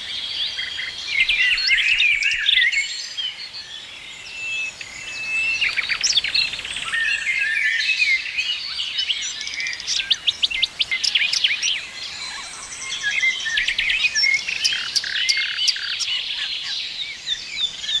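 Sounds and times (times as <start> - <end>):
songbirds singing and chirping: 0.0 - 18.0.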